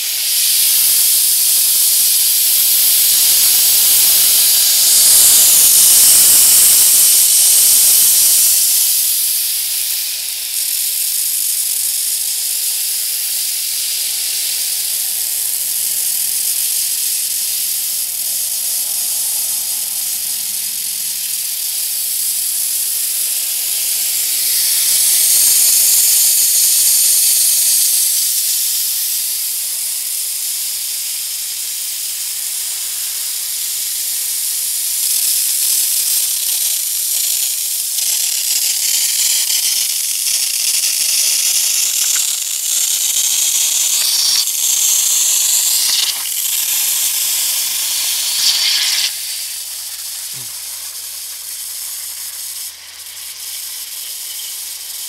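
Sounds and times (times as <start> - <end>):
sprinkler heads hissing: 0.0 - 55.0.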